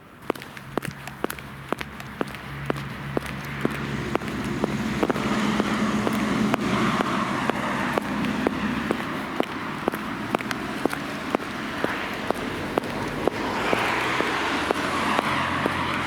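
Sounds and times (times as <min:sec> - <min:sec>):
vehicle passing: 0:00.2 - 0:16.0.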